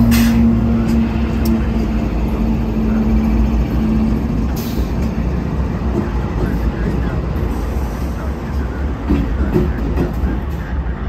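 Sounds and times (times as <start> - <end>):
locomotive engine rumble: 0.0 - 11.0.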